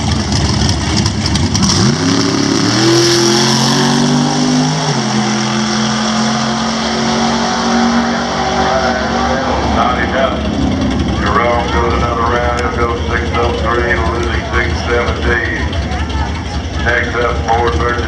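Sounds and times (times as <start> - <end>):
drag car engines at full throttle: 0.0 - 18.0.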